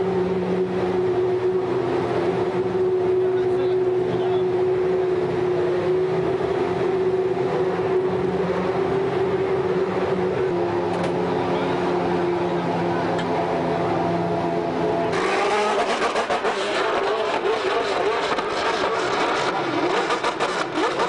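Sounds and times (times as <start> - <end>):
race car engine idling: 0.0 - 21.0
rough noisy engine: 0.0 - 21.0.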